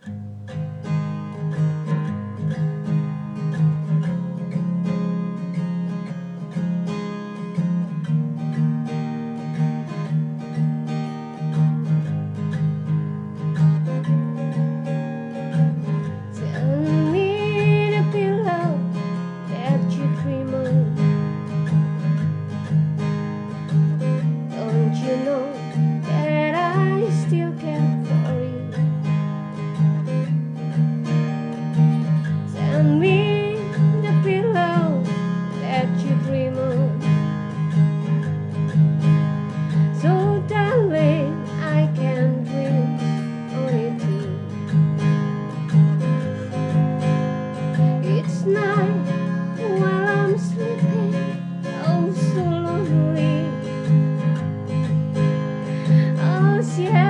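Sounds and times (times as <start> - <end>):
acoustic guitar strumming: 0.0 - 57.0
gliding guitar melody: 0.0 - 57.0.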